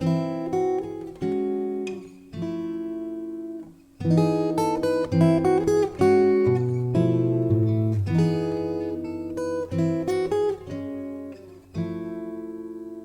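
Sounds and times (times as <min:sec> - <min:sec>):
acoustic guitar melody: 0:00.0 - 0:13.0.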